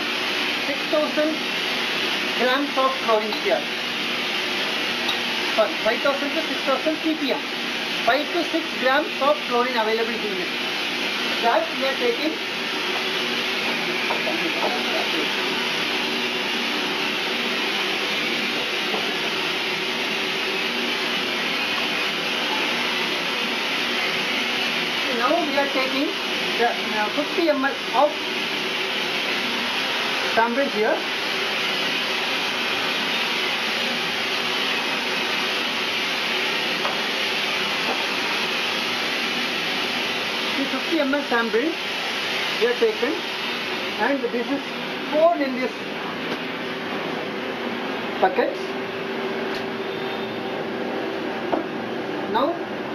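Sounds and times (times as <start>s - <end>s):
machine motor hum with hiss: 0.0s - 52.9s.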